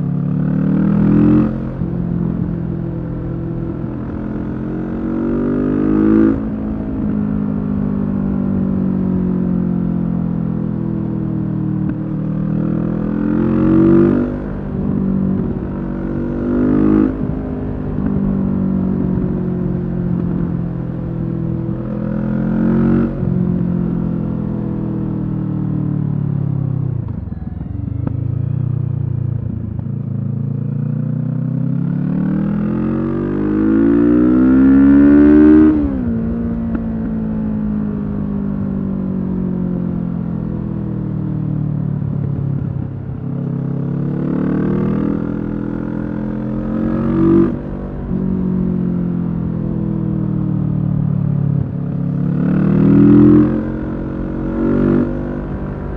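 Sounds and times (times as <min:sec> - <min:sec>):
motorcycle engine revving: 0:00.0 - 0:09.7, 0:11.8 - 0:55.9.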